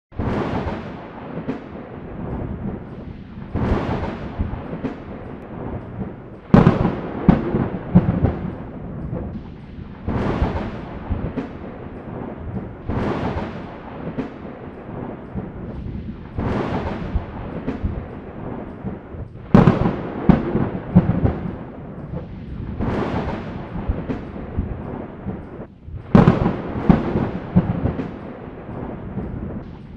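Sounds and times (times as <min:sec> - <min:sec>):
thunder cracks and rumble: 0:00.1 - 0:29.9.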